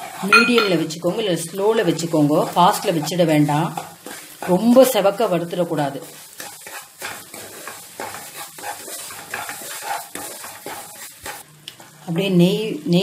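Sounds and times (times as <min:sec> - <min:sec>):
spatula scraping pan: 0:00.0 - 0:12.3
ghee sizzling: 0:00.0 - 0:13.0.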